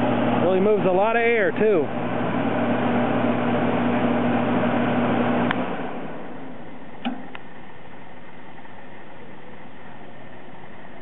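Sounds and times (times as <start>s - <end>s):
electrical hum: 0.0s - 11.0s
furnace blower running: 0.0s - 11.0s.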